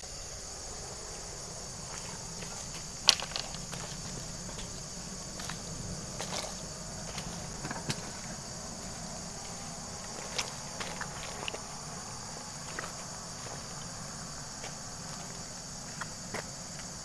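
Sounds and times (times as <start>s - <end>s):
insect chorus droning: 0.0s - 17.0s.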